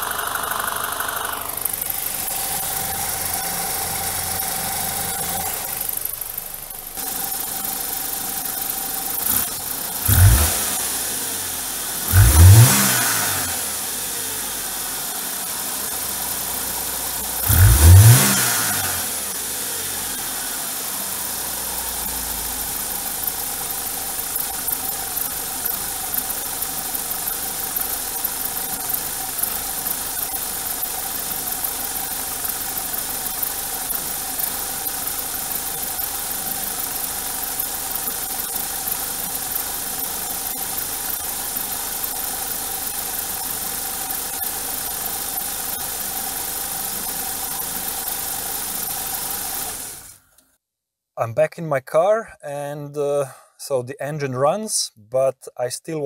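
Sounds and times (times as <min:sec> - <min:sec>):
car engine surging and idling: 0:00.0 - 0:50.4.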